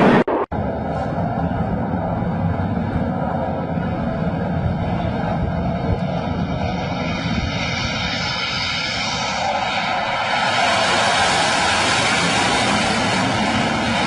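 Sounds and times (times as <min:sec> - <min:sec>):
fighter jet engine rumble: 0:00.0 - 0:14.0.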